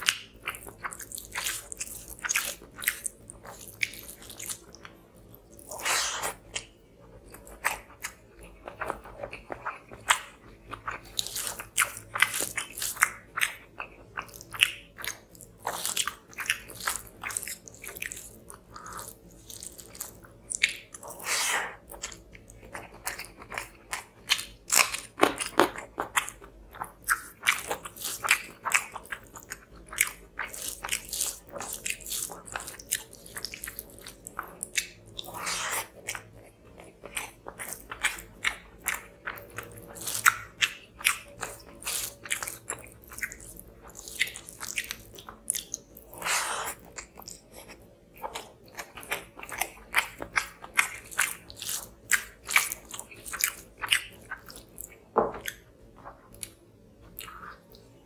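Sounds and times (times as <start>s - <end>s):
close chewing with wet mouth clicks: 0.0s - 57.9s.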